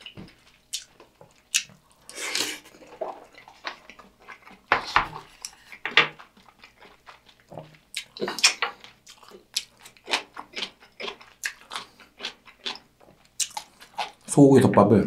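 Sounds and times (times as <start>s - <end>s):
close chewing of food: 0.0s - 14.6s.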